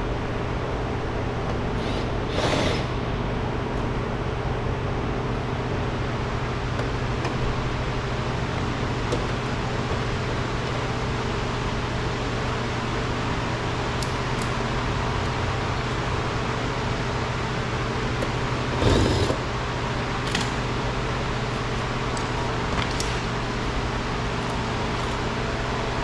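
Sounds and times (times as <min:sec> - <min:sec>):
mechanical hum: 0:00.0 - 0:26.0.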